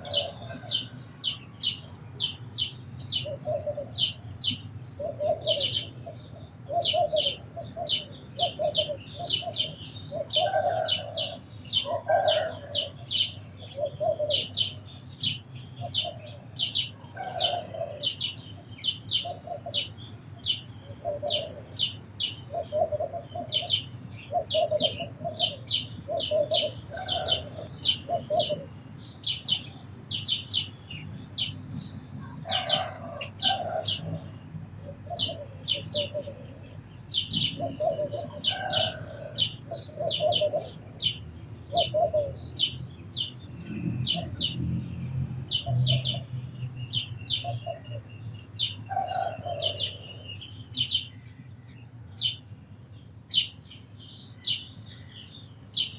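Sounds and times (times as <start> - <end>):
lower-pitched bird calls: 0.0 - 55.9
sparrows chirping: 0.0 - 55.9.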